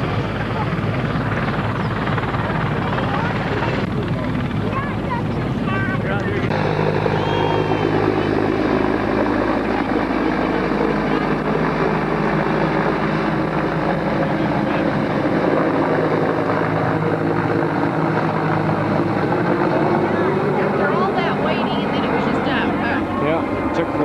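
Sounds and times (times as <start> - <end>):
helicopter rotor and engine drone: 0.0 - 24.0.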